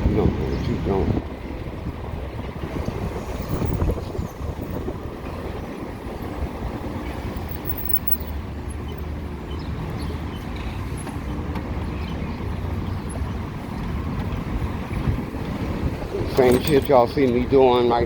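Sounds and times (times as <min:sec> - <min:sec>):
surrounding traffic: 0:00.0 - 0:18.0
wind and road noise: 0:00.0 - 0:18.0.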